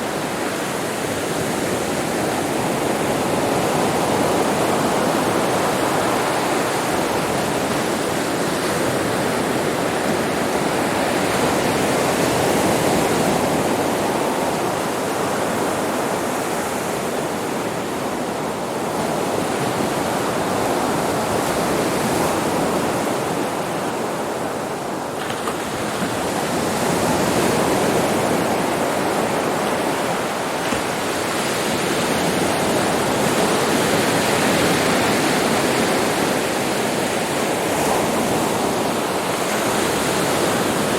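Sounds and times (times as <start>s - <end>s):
sea waves breaking on a beach: 0.0s - 40.9s.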